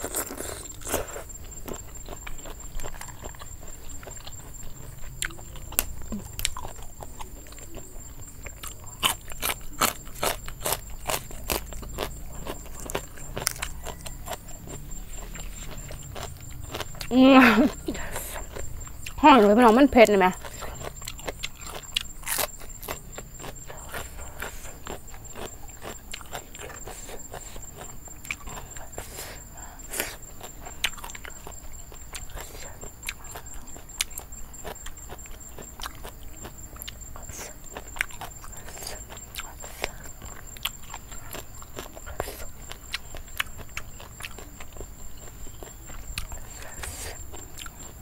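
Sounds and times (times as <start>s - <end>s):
person chewing crunchy food: 0.0s - 48.0s.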